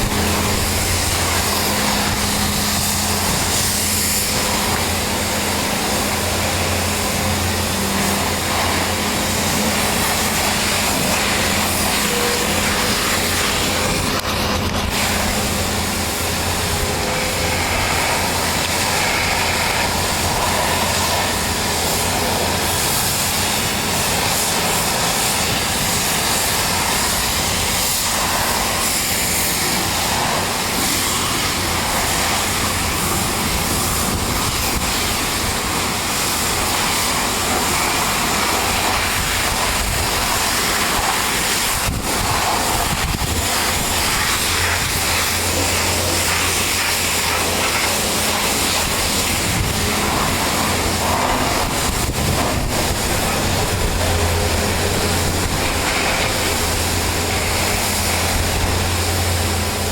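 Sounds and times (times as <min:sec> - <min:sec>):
high-pressure water spray hissing: 0:00.0 - 0:59.9
low machine drone: 0:00.0 - 0:59.9.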